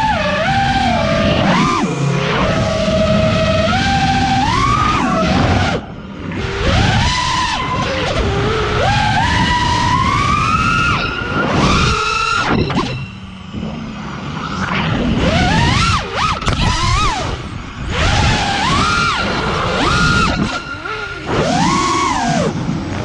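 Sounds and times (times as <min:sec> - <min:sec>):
drone motors whining: 0:00.0 - 0:23.0
wind rushing over microphone: 0:00.6 - 0:23.0.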